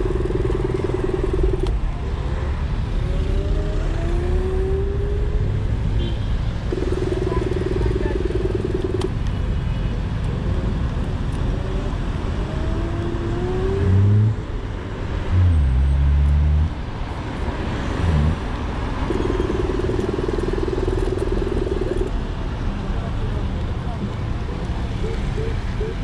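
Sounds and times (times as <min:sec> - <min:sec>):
city street traffic: 0:00.0 - 0:26.0
electric scooter riding rush: 0:00.0 - 0:26.0.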